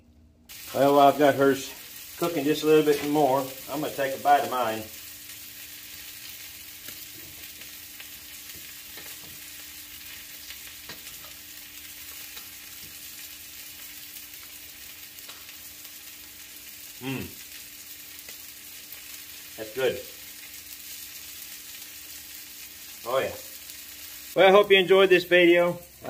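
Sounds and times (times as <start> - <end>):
steak sizzling on a griddle: 0.5 - 26.0.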